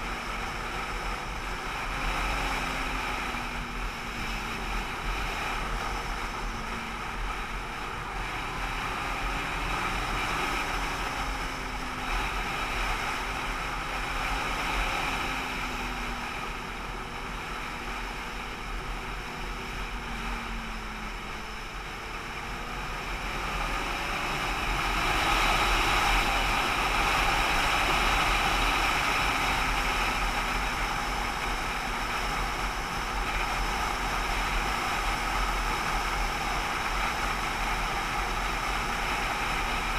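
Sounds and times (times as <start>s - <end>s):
faint vehicle engine: 0.0s - 39.9s
wind and road noise: 0.0s - 39.9s.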